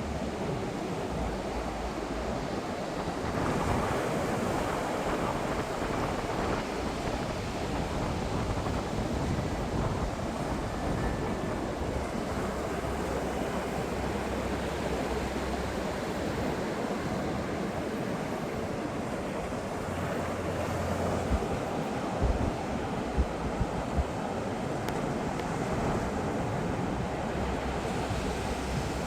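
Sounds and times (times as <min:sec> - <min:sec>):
ocean waves breaking: 0:00.0 - 0:29.0
wind rumbling on microphone: 0:00.0 - 0:29.0.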